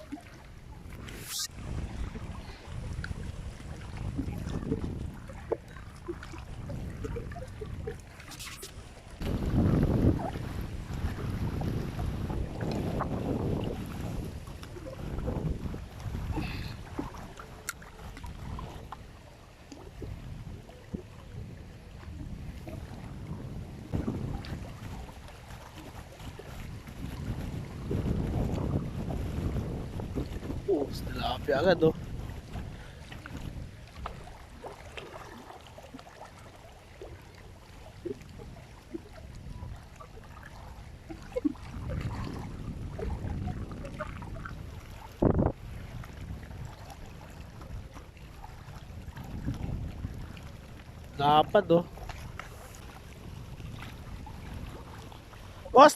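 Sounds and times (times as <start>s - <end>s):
wind rumble on microphone: 0.0s - 55.9s.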